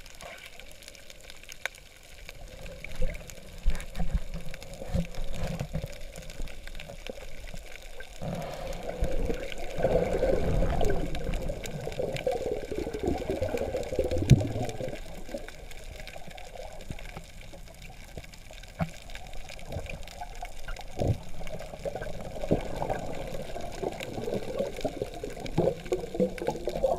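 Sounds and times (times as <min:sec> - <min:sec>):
water sloshing underwater: 0:00.0 - 0:26.9.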